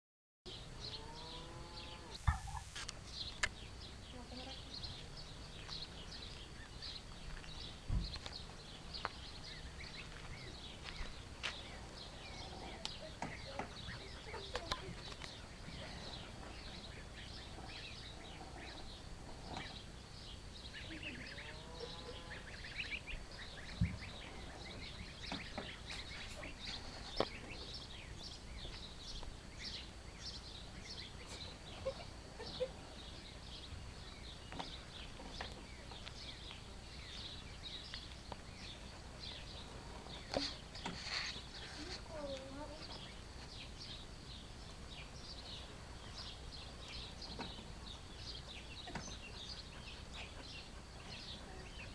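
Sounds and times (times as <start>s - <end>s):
ducklings peeping: 0.5s - 51.9s.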